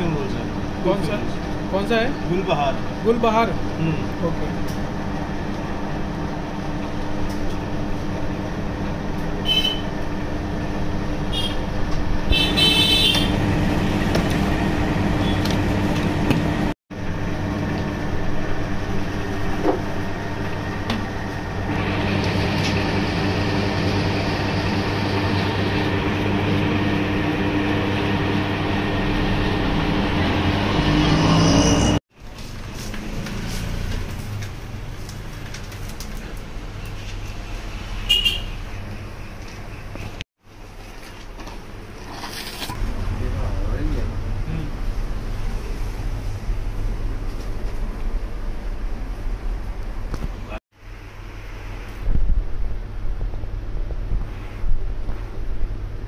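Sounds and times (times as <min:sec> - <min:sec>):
ice cream machine humming: 0:00.0 - 0:50.6.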